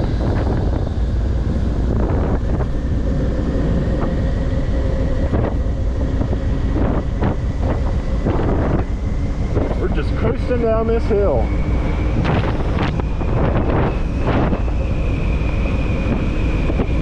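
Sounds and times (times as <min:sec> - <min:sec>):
motorcycle engine at road speed: 0:00.0 - 0:17.0
wind buffeting on microphone: 0:00.0 - 0:17.0.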